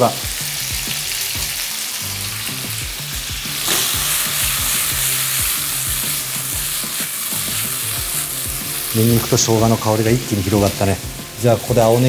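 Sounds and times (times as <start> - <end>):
squid sizzling in hot oil: 0.0 - 12.0.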